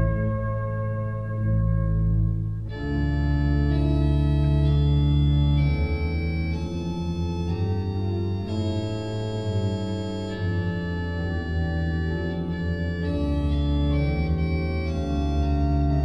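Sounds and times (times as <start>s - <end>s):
slow organ chords: 0.0s - 16.0s.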